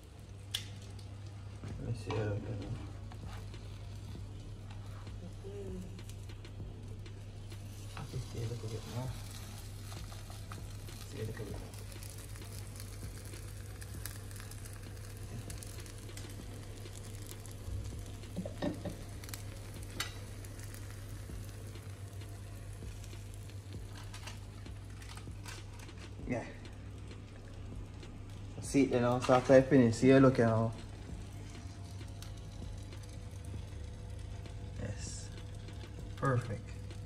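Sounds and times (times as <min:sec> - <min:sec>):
low hum: 0:00.0 - 0:37.0
toast sizzling in a frying pan: 0:00.6 - 0:37.0.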